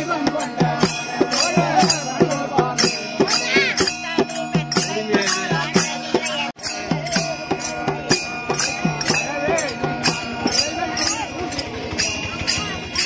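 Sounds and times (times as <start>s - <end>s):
small hand cymbals: 0.0s - 13.0s.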